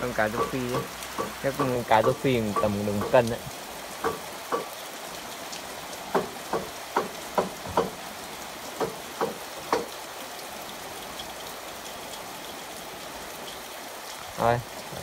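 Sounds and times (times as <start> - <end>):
heavy rain on pond and roof: 0.0 - 15.0.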